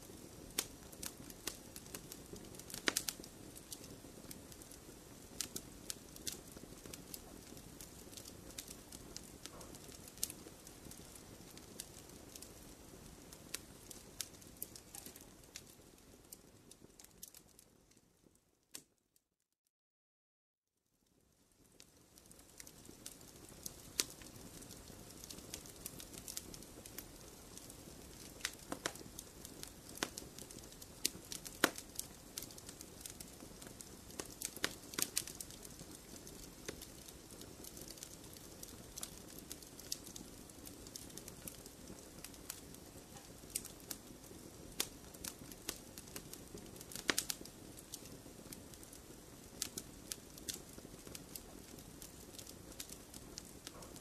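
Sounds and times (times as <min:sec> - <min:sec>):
hiss of flames: 0:00.0 - 0:16.8, 0:21.8 - 0:54.0
logs popping and crackling: 0:00.0 - 0:18.0, 0:21.6 - 0:54.0.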